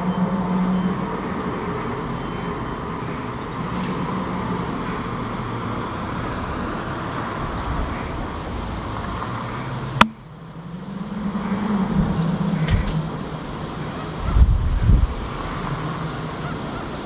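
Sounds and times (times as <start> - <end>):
distant road traffic: 0.0 - 17.0
low engine hum: 0.0 - 17.0.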